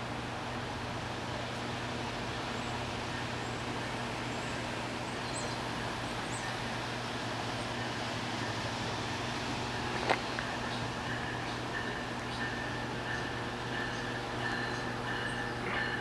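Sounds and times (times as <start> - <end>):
diesel train engine drone: 0.0 - 16.0.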